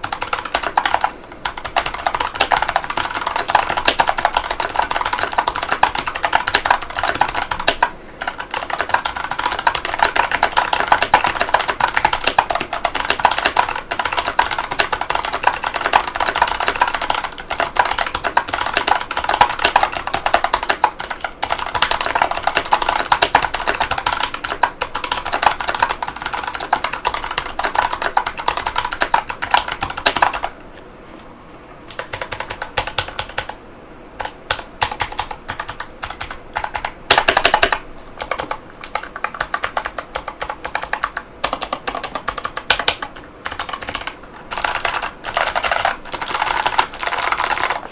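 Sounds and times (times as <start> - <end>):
fast mechanical keyboard typing: 0.0 - 30.5, 31.9 - 33.6, 34.2 - 47.9.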